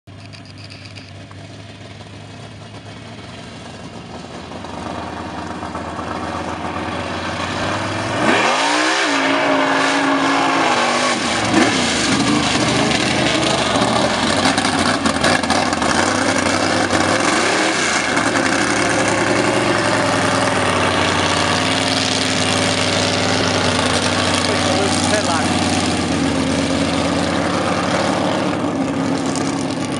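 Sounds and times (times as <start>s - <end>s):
truck engine revving: 2.6s - 29.9s.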